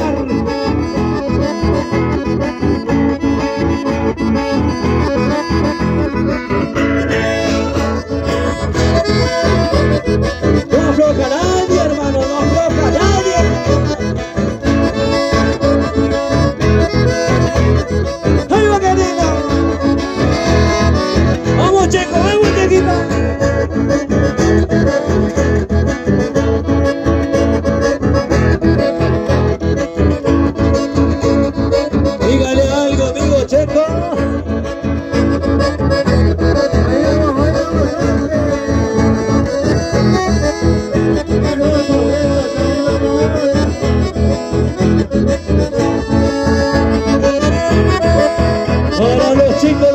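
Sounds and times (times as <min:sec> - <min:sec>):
live dance band music: 0:00.0 - 0:49.9.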